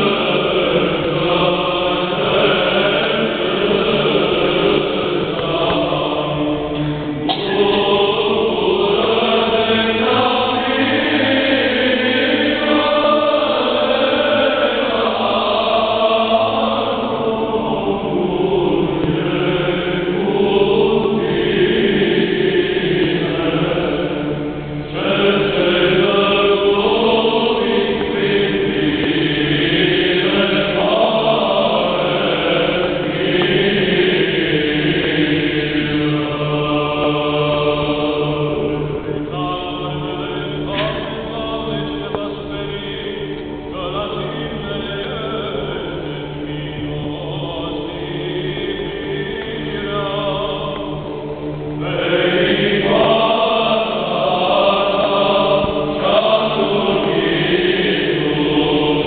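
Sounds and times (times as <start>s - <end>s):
church choir chanting a hymn: 0.0s - 59.0s.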